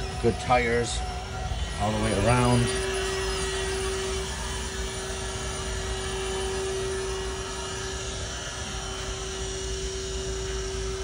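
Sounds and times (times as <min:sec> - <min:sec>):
machine hum with constant tone: 0:00.0 - 0:11.0.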